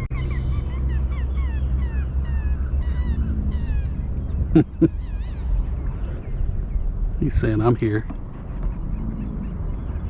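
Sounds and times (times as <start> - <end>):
alligator grunting rumble: 0.0 - 10.0
small birds chirping: 0.0 - 10.0.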